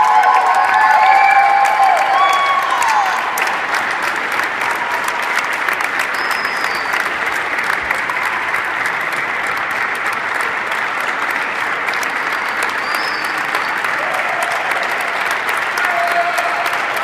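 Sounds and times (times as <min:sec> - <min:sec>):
applause: 0:00.0 - 0:17.0.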